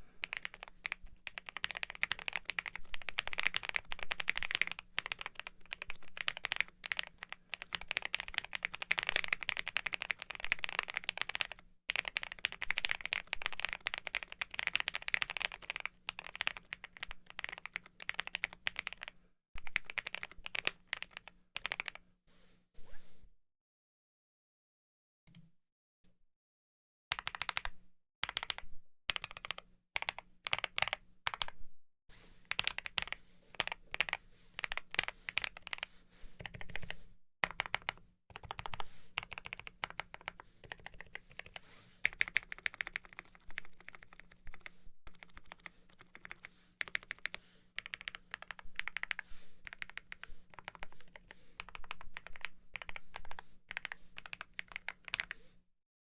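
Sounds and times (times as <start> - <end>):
mechanical keyboard typing: 0.2 - 22.0, 27.1 - 31.6, 32.5 - 55.4.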